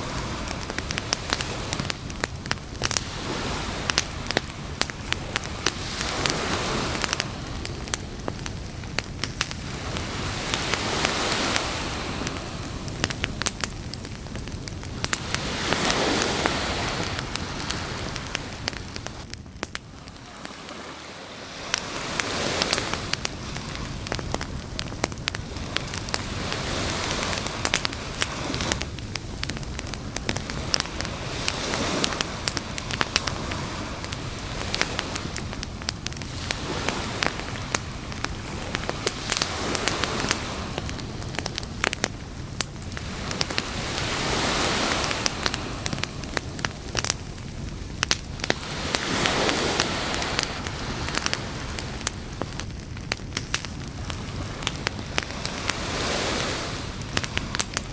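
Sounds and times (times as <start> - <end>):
campfire crackling and popping: 0.0 - 57.9
surf washing in and out: 0.0 - 57.9.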